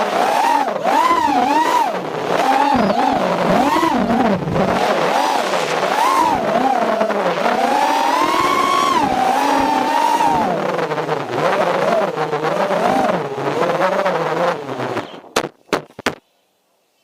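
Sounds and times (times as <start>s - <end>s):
drone motors whining: 0.0s - 15.3s.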